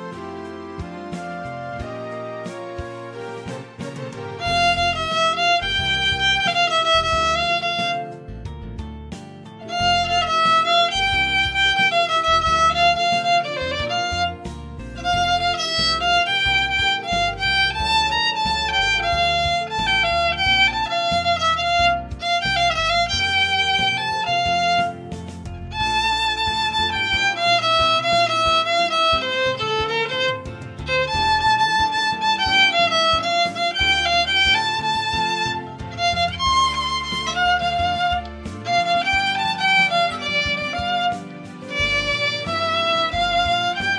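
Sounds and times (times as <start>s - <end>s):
violin melody: 0.0s - 43.9s.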